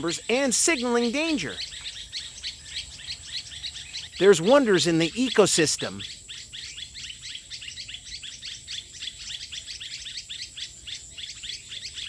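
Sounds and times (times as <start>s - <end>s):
flock of birds chirping: 0.0s - 12.0s.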